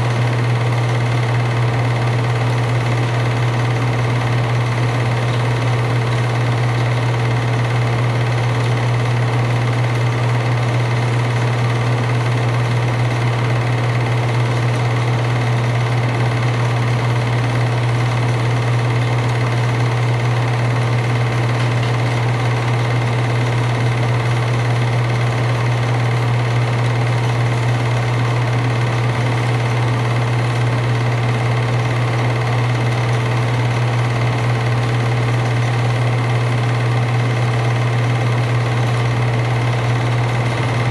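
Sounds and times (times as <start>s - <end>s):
film projector mechanical hum: 0.0s - 40.9s.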